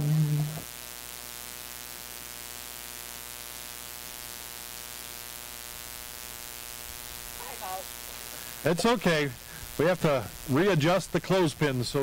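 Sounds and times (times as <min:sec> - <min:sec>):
electrical mains hum: 0:00.0 - 0:12.0
static hiss: 0:00.0 - 0:12.0.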